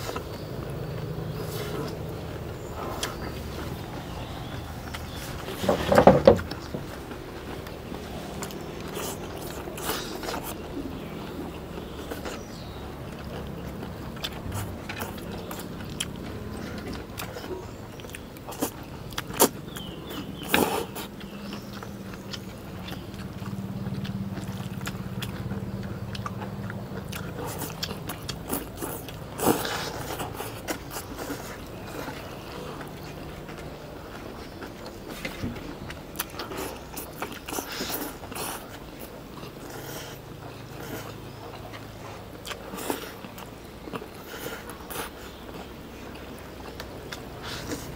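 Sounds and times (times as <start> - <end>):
chewing: 0.0 - 47.9
steady low hum: 0.0 - 47.9.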